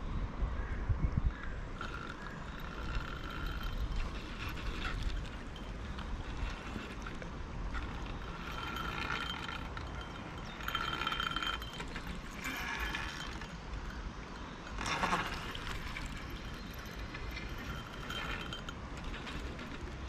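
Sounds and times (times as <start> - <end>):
low steady rumble: 0.0 - 20.0
fishing reel clicking and whirring: 1.7 - 20.0.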